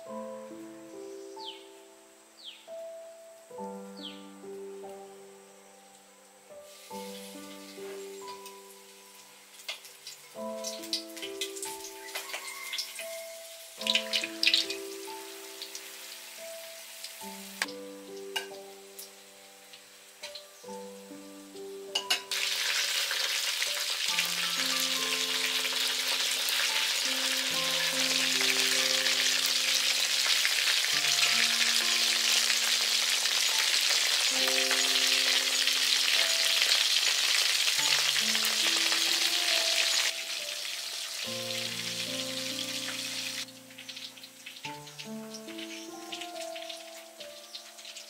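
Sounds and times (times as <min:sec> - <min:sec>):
soft background music: 0:00.0 - 0:48.0
food deep-frying in oil: 0:06.7 - 0:48.0.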